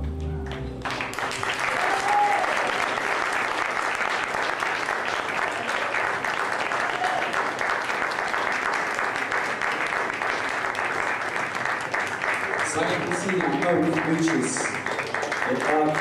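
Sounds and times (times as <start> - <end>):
audience applauding: 0.4 - 16.0.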